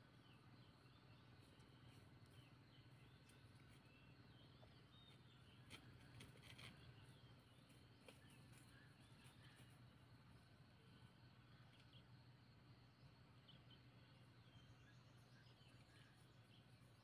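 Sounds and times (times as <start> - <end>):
distant bird chirps: 0.0 - 17.0.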